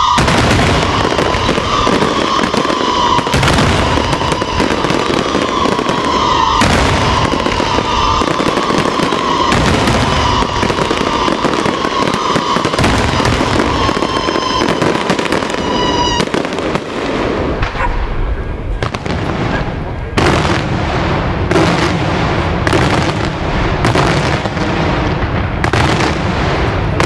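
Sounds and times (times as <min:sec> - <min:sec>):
fireworks whistle: 0:00.0 - 0:18.1, 0:18.8 - 0:27.0
fireworks bursting and crackling: 0:00.0 - 0:27.0.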